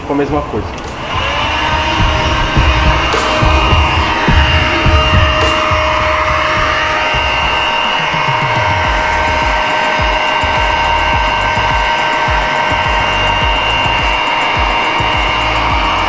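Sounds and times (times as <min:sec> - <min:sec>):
music with heavy low beat: 0:00.1 - 0:16.0
heat gun blowing: 0:00.8 - 0:16.0.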